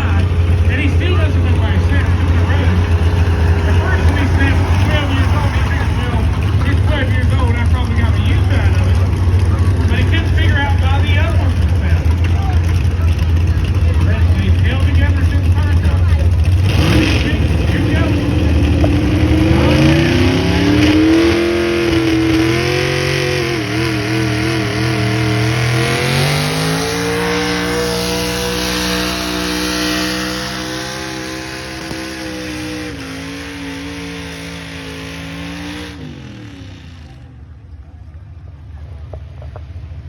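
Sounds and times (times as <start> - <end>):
vehicle engine at high revs: 0.0 - 37.8.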